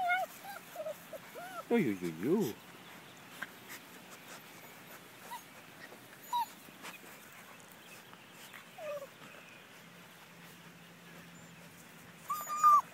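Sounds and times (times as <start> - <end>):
puppies whimpering: 0.0 - 12.9.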